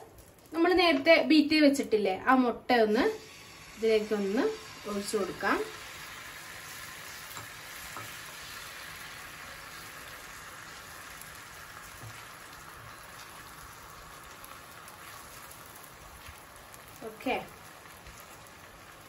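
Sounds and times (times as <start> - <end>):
egg sizzling in pan: 2.8 - 19.0.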